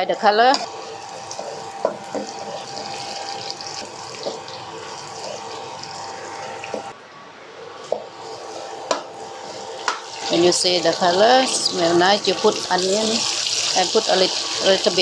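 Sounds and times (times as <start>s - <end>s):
garlic sizzling in hot oil: 0.0s - 6.9s, 7.8s - 15.0s.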